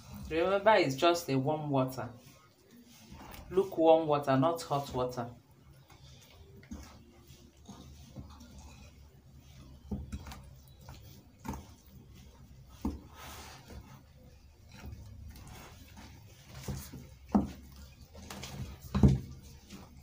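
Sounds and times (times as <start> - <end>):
spoon stirring thick batter: 0.0 - 20.0.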